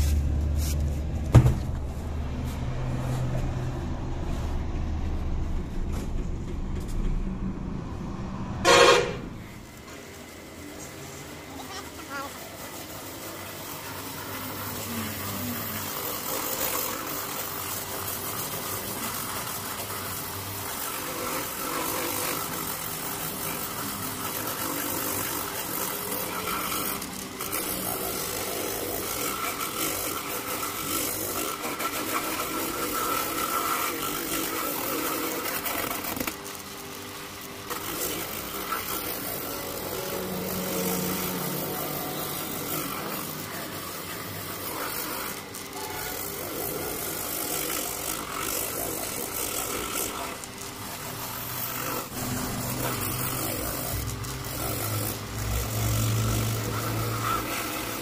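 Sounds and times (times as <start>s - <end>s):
rotary buffer grinding rubber: 0.0s - 58.0s.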